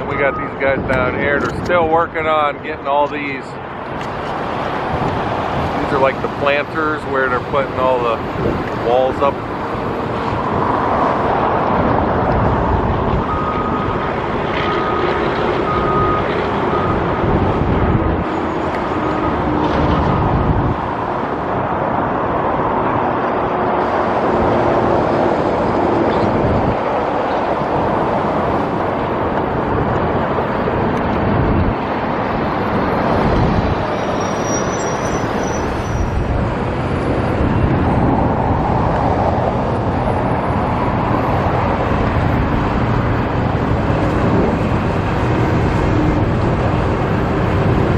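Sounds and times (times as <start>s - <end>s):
road traffic: 0.0s - 47.9s.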